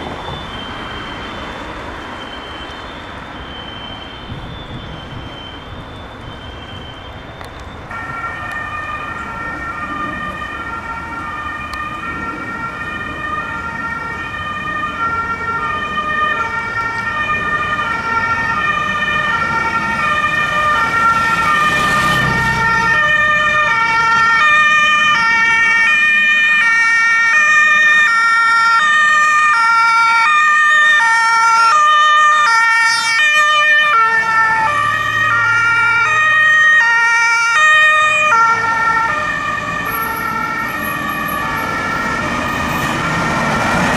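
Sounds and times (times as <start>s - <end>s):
two-tone fire engine sirens: 0.0s - 43.9s.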